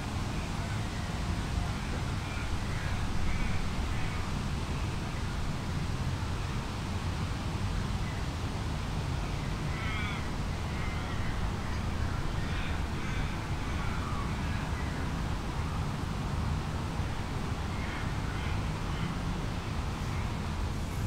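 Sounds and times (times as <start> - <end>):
low rumble of wind: 0.0 - 21.0.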